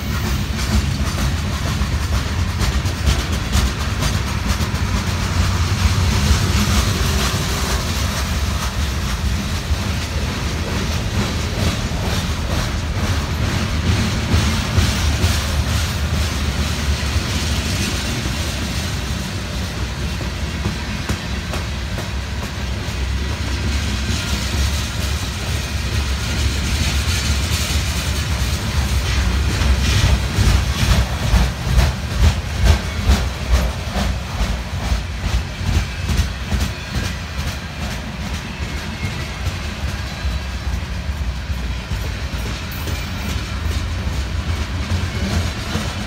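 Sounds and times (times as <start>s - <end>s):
rumble of train wheels on rail: 0.0s - 46.0s
wheels clacking over rail joints: 0.0s - 46.0s.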